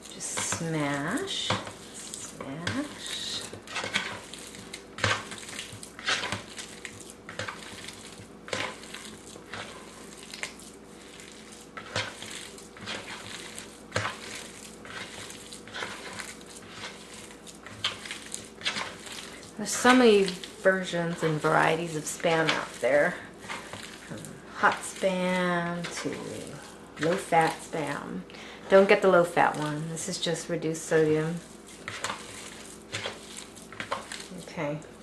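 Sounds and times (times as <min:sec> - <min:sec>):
meat squishing by hand: 0:00.0 - 0:28.0, 0:28.6 - 0:35.0.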